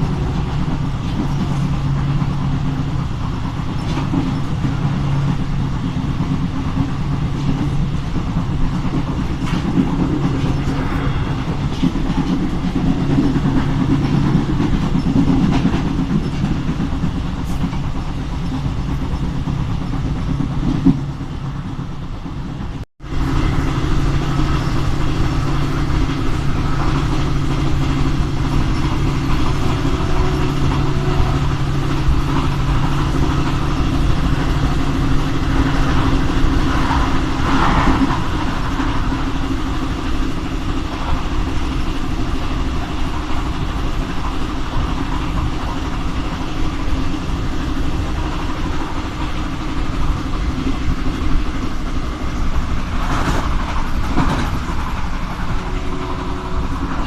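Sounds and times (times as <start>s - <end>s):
train rattle: 0.0s - 57.0s
train rolling on rails: 0.0s - 57.0s.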